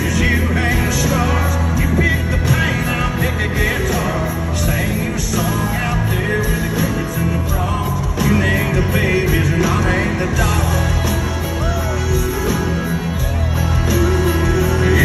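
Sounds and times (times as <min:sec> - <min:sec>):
bass: 0:00.0 - 0:15.0
live country band playing: 0:00.0 - 0:15.0.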